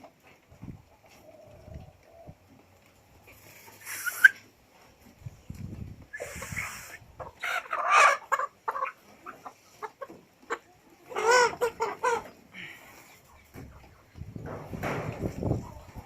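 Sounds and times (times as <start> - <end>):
chickens clucking and calling: 0.0 - 16.0.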